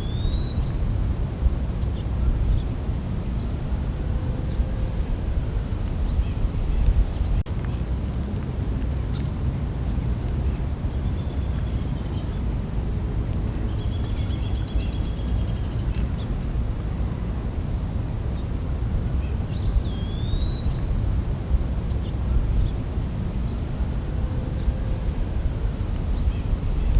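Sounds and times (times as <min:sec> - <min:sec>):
crickets chirping: 0:00.0 - 0:26.9.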